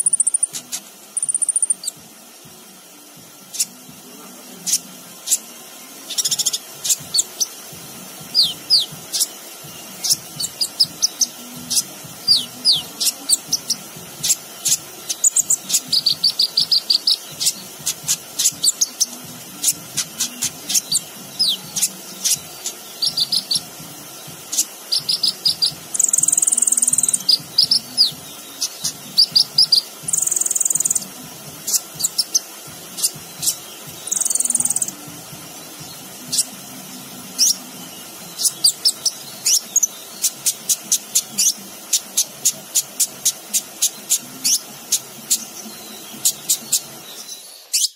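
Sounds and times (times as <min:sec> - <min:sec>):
buzzy insect-like bird call: 0:00.0 - 0:47.9
sunbird singing: 0:00.0 - 0:47.9.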